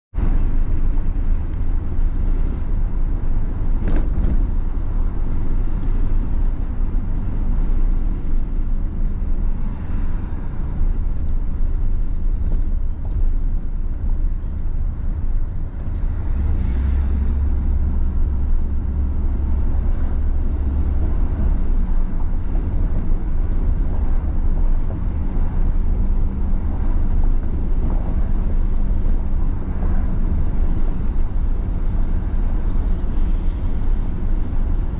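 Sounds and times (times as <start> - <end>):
road vehicle rumble: 0.1 - 34.9.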